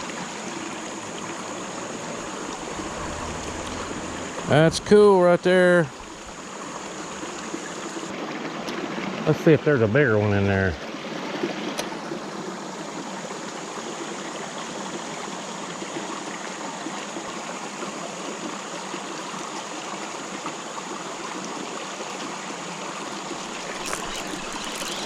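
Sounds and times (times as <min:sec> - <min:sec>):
creek water running: 0:00.0 - 0:25.0.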